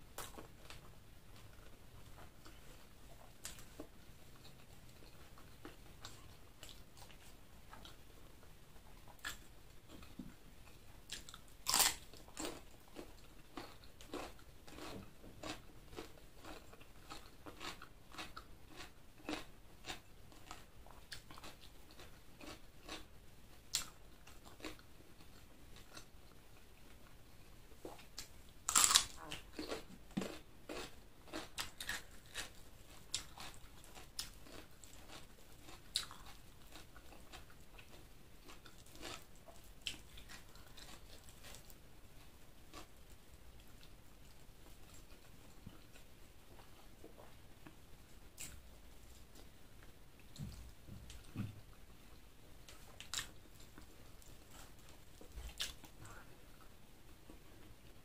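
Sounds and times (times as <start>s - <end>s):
close-miked chewing: 0.1s - 58.0s.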